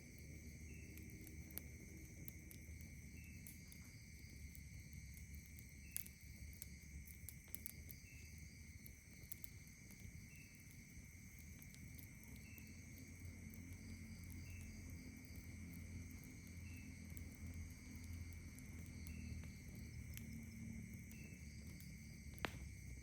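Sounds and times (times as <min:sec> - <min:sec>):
campfire crackling: 0:00.0 - 0:23.0
night insects chorus: 0:00.0 - 0:23.0.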